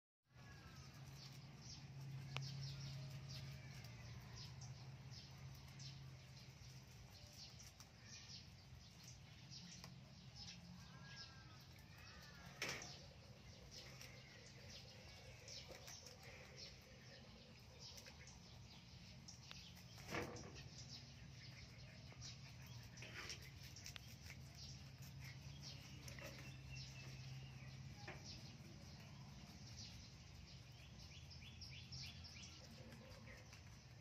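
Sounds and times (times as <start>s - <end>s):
bird chirps: 0.3s - 33.2s
rabbits chewing leafy stems: 0.3s - 34.0s.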